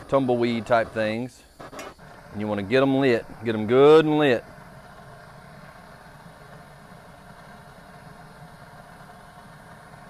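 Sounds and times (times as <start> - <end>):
gas torch flame rumbling: 0.0 - 10.0.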